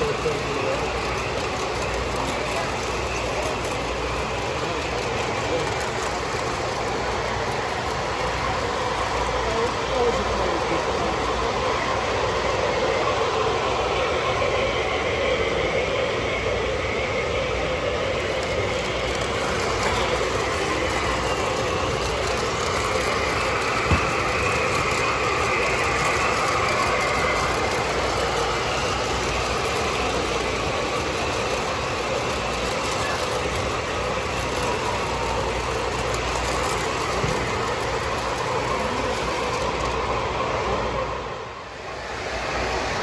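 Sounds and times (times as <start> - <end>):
busy hall hum: 0.0 - 43.0
model trains whirring on track: 0.0 - 43.0.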